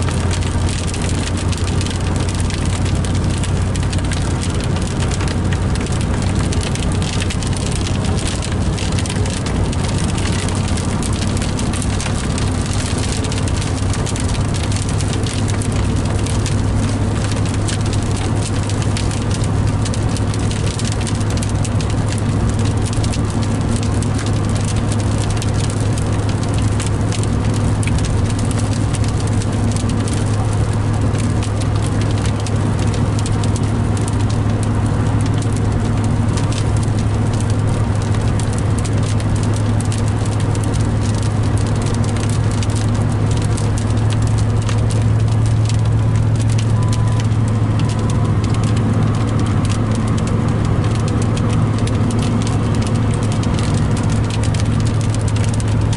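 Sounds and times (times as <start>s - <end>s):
engine and tyres on wet road: 0.0s - 55.9s
rain pattering on car: 0.0s - 55.9s.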